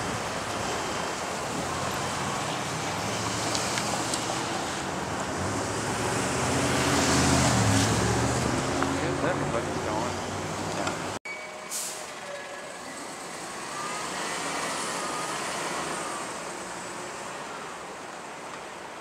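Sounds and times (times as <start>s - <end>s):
cars and trucks driving past: 0.0s - 19.0s.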